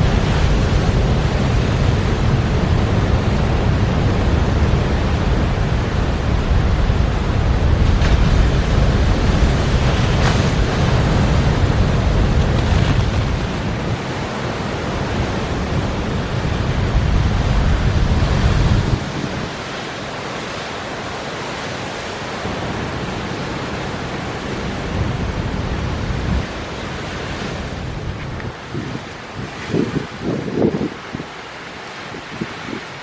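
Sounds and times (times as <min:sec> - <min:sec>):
gusting wind buffeting microphone: 0:00.0 - 0:33.0
surf crashing on rocks: 0:00.0 - 0:33.0.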